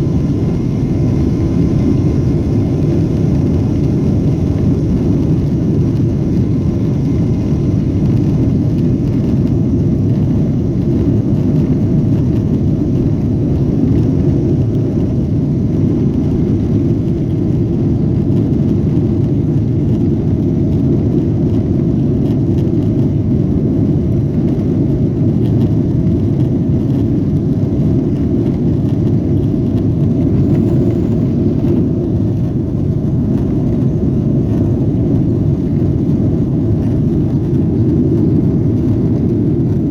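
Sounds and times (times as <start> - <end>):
airliner engines rumbling in cabin: 0.0 - 39.9.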